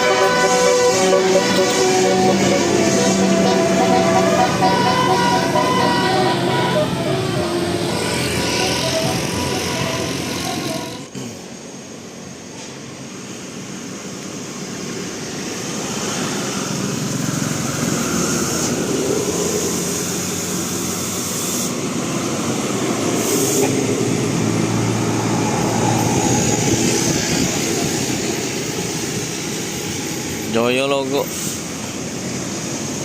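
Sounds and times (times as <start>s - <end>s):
heavy vehicle passing: 0.0s - 11.6s, 14.4s - 30.5s.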